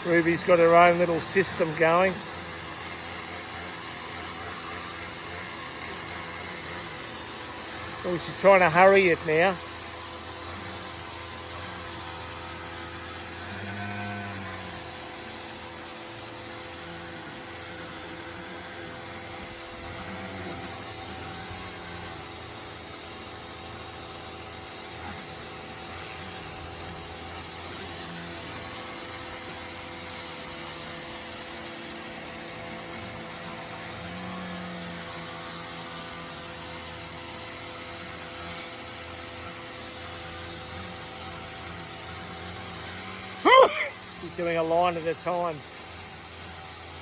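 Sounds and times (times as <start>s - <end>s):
pressure washer motor humming: 0.0s - 13.7s, 14.4s - 47.0s
water jet hissing on concrete: 0.0s - 13.7s, 14.4s - 47.0s.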